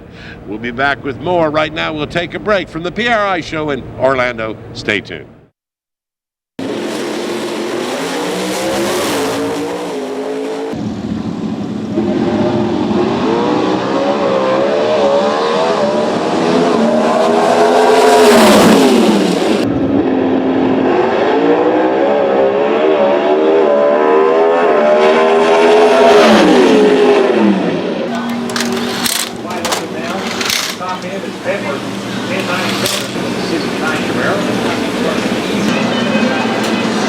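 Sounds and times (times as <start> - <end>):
racing car engines revving: 6.6 - 37.0.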